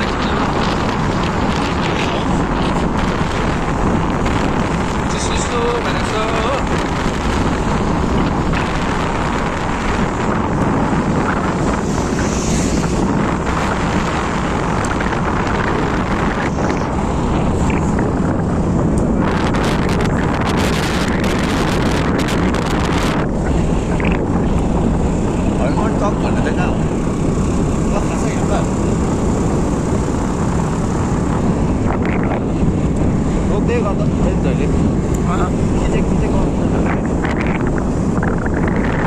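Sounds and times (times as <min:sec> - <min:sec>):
road noise: 0:00.0 - 0:39.0
wind buffeting microphone: 0:00.0 - 0:39.0.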